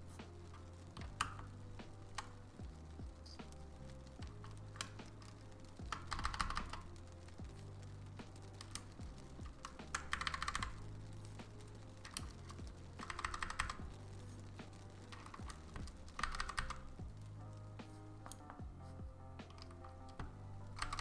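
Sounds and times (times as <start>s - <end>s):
mechanical keyboard typing: 0.2s - 18.8s, 19.4s - 21.0s.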